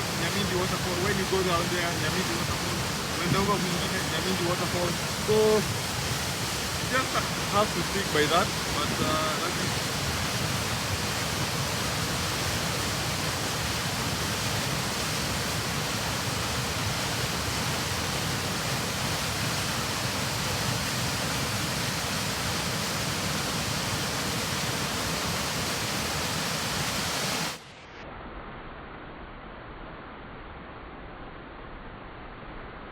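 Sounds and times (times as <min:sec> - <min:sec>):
waterfall rushing: 0:00.0 - 0:27.6.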